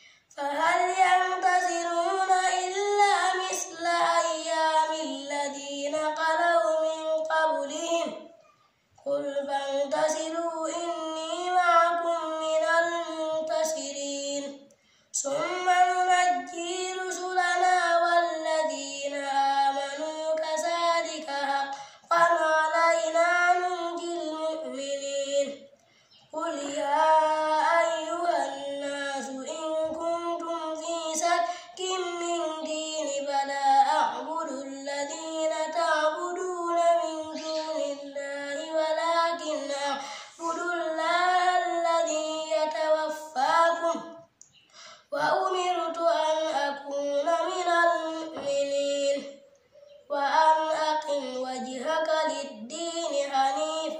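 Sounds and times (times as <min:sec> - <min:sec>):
child chanting recitation: 0:00.3 - 0:25.7, 0:26.3 - 0:44.4, 0:45.0 - 0:53.9.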